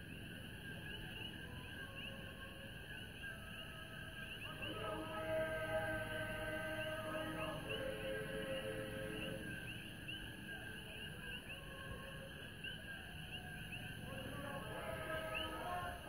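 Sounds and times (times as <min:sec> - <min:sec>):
frogs chirping: 0:00.0 - 0:16.0
distant choir holding notes: 0:00.1 - 0:16.0.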